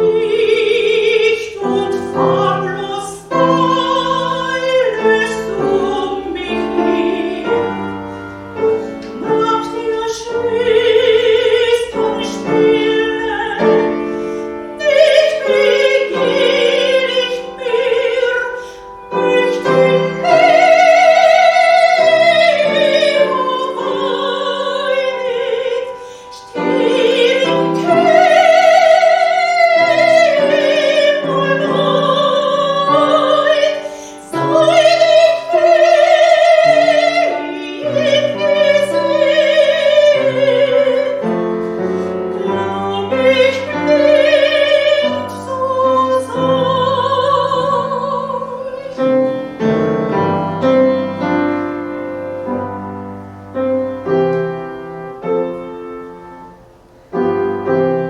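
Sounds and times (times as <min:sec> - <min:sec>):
piano accompaniment: 0:00.0 - 0:58.0
soprano singing: 0:00.0 - 0:58.0.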